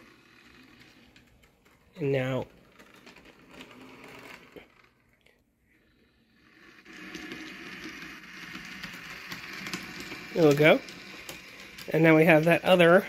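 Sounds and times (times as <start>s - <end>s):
wheels clicking on rails: 0.0s - 5.3s, 6.0s - 13.0s
model streetcar whirring: 0.0s - 13.0s.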